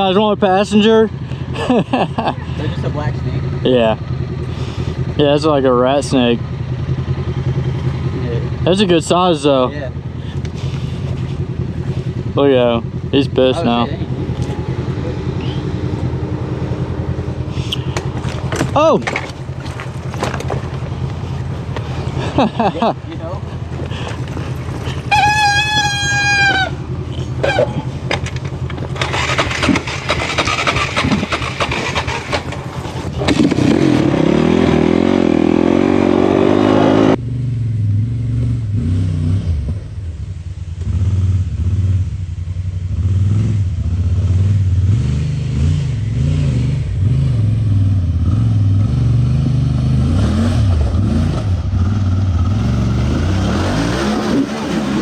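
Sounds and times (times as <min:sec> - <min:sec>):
utility vehicle engine revving: 0:00.0 - 0:40.1, 0:42.9 - 0:55.0
deep engine drone: 0:00.0 - 0:55.0.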